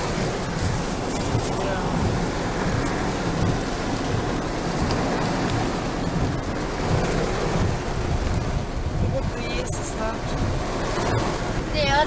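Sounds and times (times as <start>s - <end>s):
heavy rain on car windshield: 0.0s - 12.0s
low rumble: 0.0s - 12.0s.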